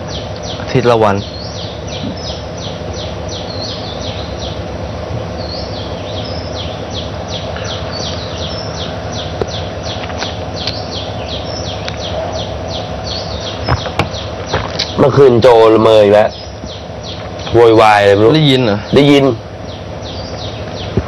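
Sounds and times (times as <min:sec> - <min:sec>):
birds chirping: 0:00.0 - 0:21.0
steady background hum: 0:00.0 - 0:21.0.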